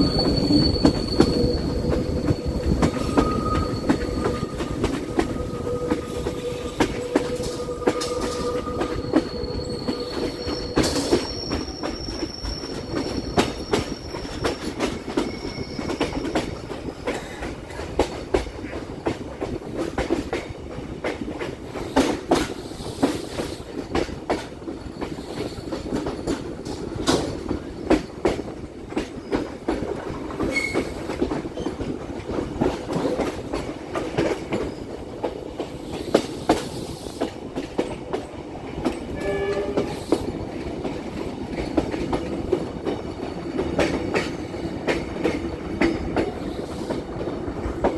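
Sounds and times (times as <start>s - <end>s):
train wheel squeal: 0.0s - 17.6s, 21.6s - 47.9s
train wheels clicking over rail joints: 0.0s - 47.9s.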